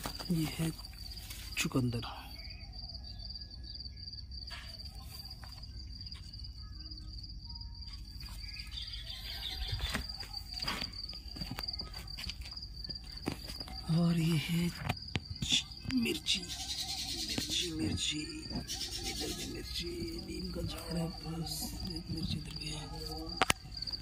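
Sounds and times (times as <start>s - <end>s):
insect trilling: 0.0s - 24.0s.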